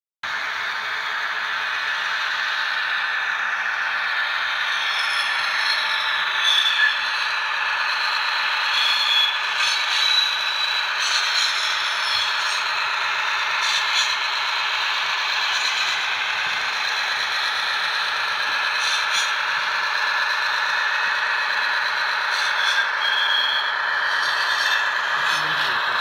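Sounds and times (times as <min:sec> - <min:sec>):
model locomotive wheels squealing: 0:00.3 - 0:26.0.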